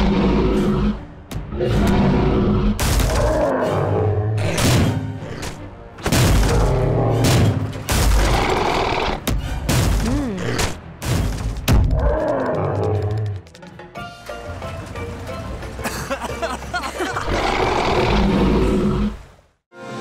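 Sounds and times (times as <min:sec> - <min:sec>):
dramatic music: 0:00.0 - 0:19.0.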